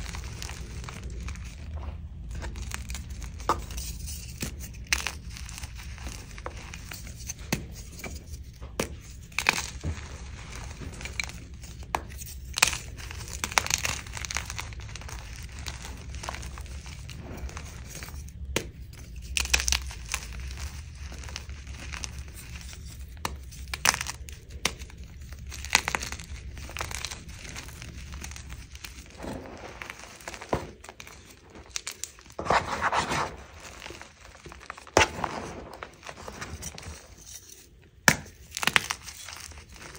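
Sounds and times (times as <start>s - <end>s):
chalk crunching and crackling: 0.0s - 39.9s.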